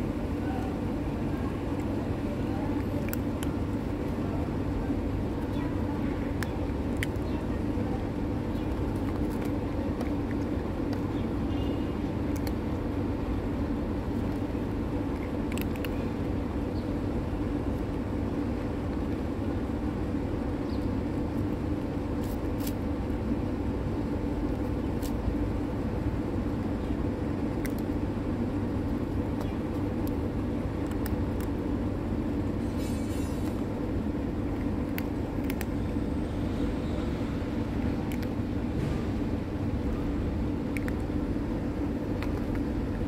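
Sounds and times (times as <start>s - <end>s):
cat crunching dry kibble: 0.0s - 32.7s, 33.4s - 43.0s
low mechanical hum: 0.0s - 43.0s.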